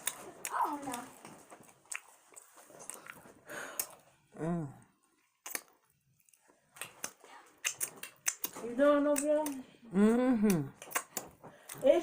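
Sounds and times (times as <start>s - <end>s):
chewing and lip-smacking: 0.0s - 4.2s, 5.2s - 11.8s.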